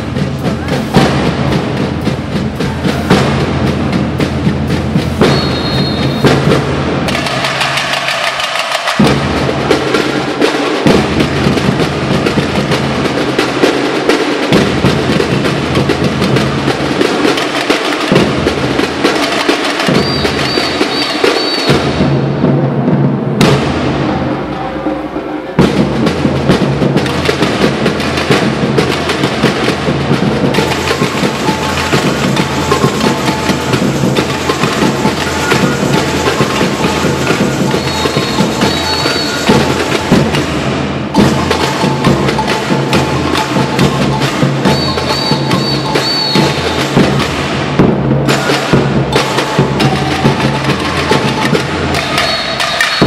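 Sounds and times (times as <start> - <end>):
bass drums: 0.0 - 7.8, 9.0 - 13.8, 14.5 - 17.3, 21.7 - 24.3, 25.6 - 52.9
samba drum band playing: 0.0 - 53.0.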